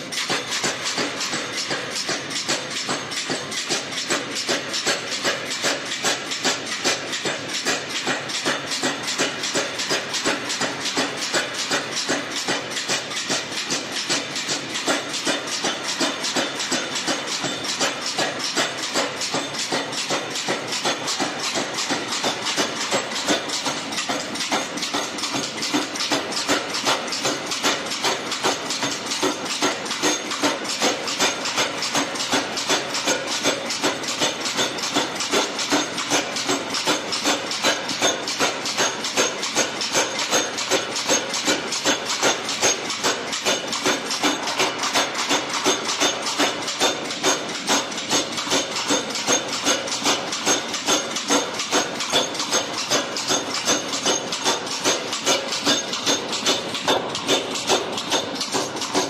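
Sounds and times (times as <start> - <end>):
power hammer striking steel: 0.0 - 59.0.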